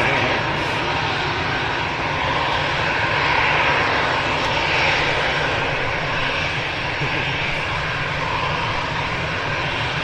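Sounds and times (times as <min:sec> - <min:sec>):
jet engines running: 0:00.0 - 0:10.0.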